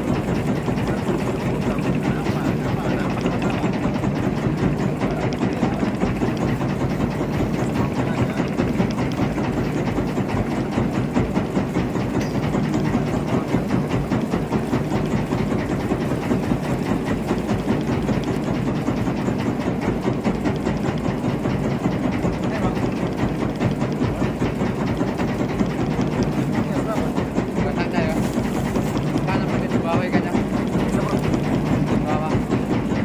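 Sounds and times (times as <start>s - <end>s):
boat engine running steadily: 0.0s - 33.0s.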